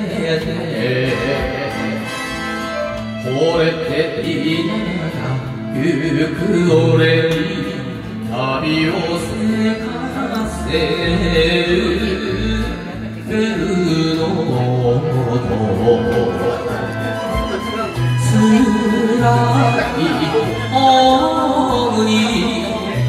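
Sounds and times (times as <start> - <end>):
karaoke backing track: 0.0 - 23.0
man singing into a microphone: 0.0 - 23.0.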